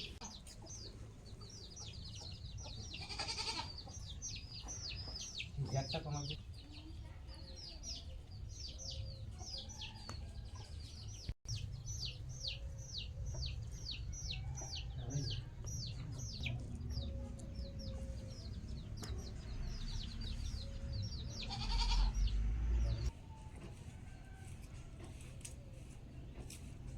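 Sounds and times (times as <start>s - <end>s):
small birds chirping: 0.0s - 23.5s.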